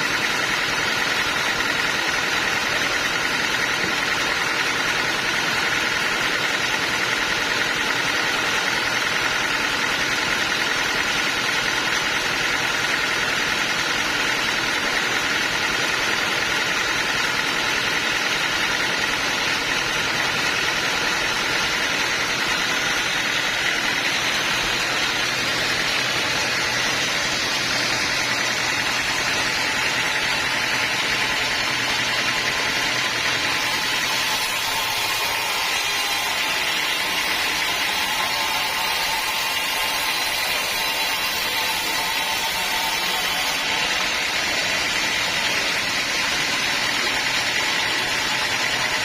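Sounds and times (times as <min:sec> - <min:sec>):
sawmill saw machinery whining: 0:00.0 - 0:49.0.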